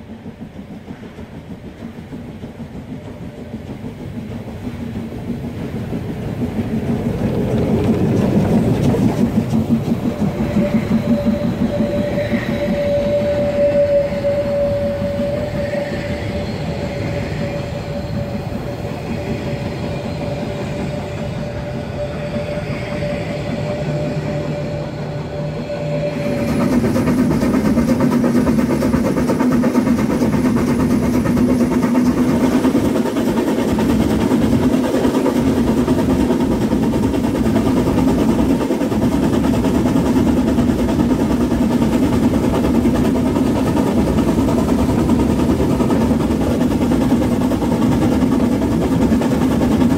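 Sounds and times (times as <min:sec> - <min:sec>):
steam locomotive running: 0:00.0 - 0:49.9
train wheels squealing: 0:00.0 - 0:49.9.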